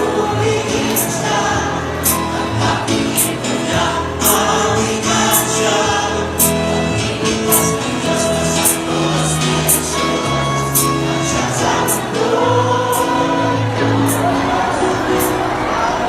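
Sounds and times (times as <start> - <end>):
choral singing: 0.0 - 16.0.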